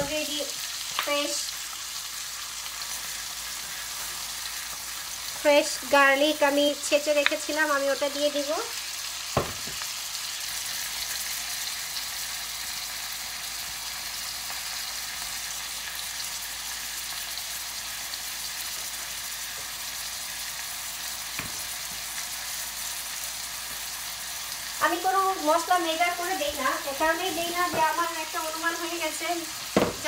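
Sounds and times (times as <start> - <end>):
onions sizzling in oil: 0.0 - 30.0.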